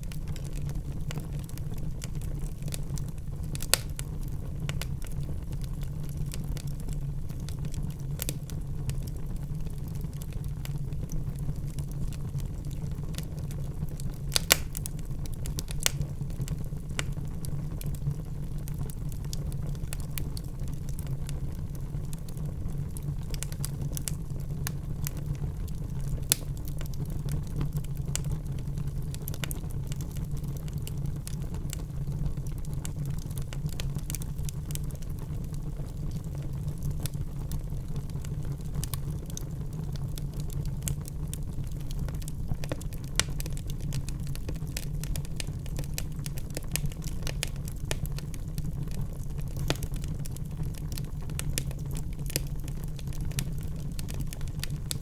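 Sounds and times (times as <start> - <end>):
fire snaps and pops: 0.0 - 55.0
wood fire crackling: 0.0 - 55.0.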